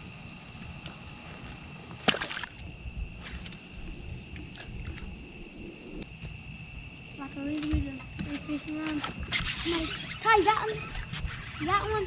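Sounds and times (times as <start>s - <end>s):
night insects droning: 0.0s - 12.0s.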